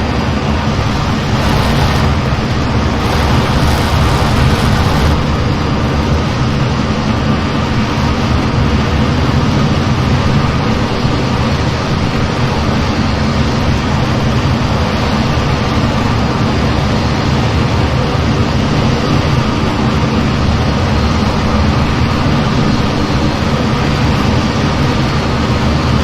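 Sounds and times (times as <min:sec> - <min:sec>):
jet engine and airflow rush: 0:00.0 - 0:26.0.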